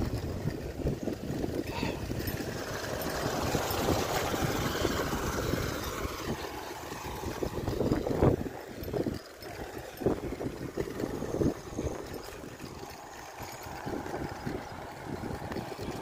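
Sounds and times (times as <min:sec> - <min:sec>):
motorcycle engine passing: 0:00.0 - 0:16.0
wind buffeting microphone: 0:00.0 - 0:16.0.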